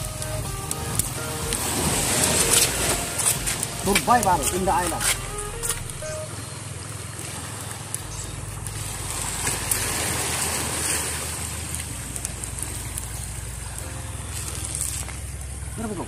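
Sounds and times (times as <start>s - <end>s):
waves washing onto shore: 0.0s - 15.8s
low rumble: 0.0s - 16.0s.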